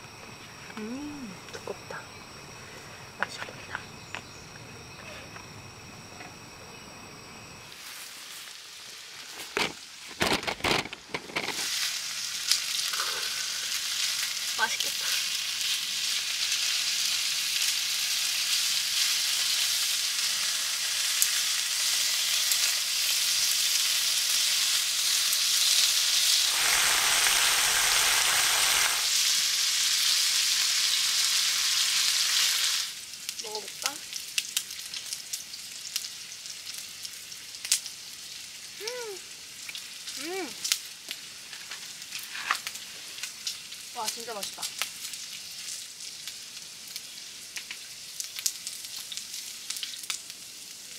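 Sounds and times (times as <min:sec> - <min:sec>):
meat sizzling in a pan: 0:07.7 - 0:10.0, 0:11.5 - 0:50.9.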